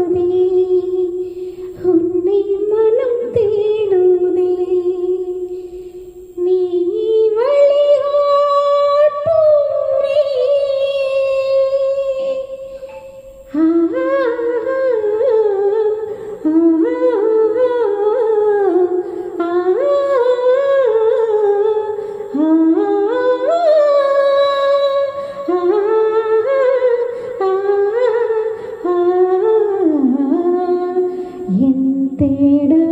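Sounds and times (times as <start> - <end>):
person humming a slow melody: 0.0 - 32.9.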